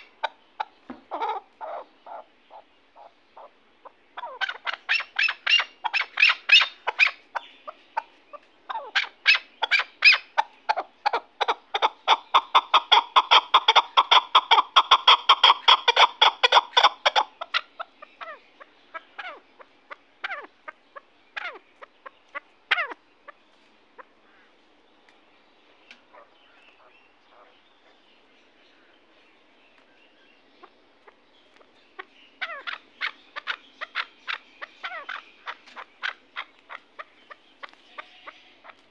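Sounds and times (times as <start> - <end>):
partridge clucking calls: 0.0 - 38.9.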